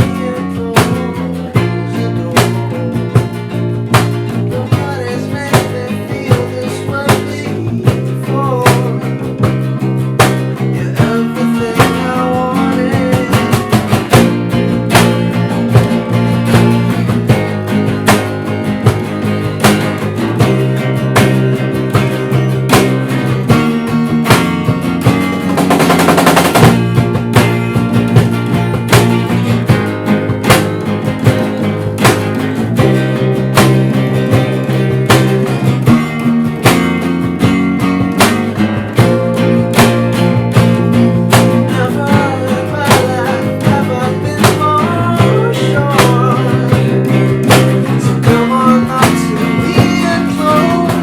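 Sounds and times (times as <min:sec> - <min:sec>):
strummed acoustic guitar: 0:00.0 - 0:51.0.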